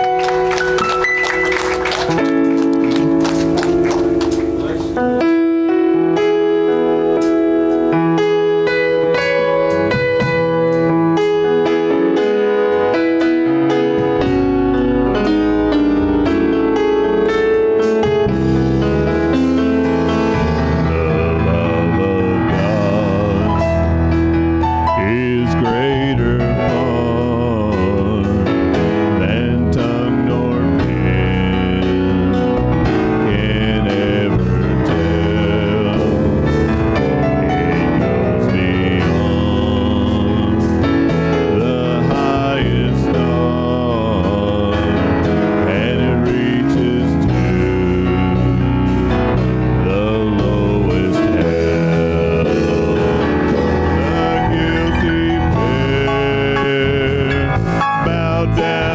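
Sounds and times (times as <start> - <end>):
electronic keyboard piano: 0.0 - 58.9
worship band playing: 0.0 - 58.9.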